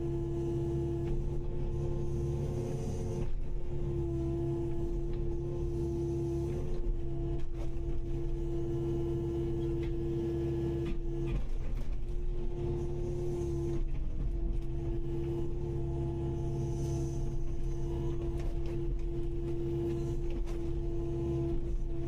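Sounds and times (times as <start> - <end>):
excavator diesel rumble: 0.0 - 22.0.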